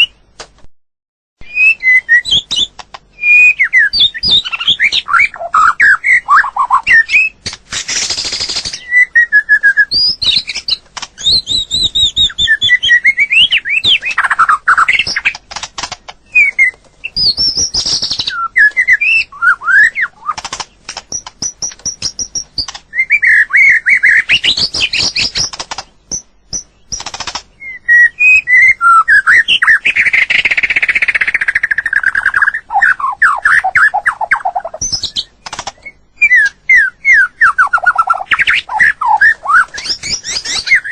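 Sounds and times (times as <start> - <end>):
bird singing whistled phrases: 1.4 - 7.4, 8.2 - 15.3, 16.3 - 20.4, 21.1 - 25.5, 27.6 - 40.9
sharp clicking bird notes: 2.2 - 8.8, 9.9 - 40.9.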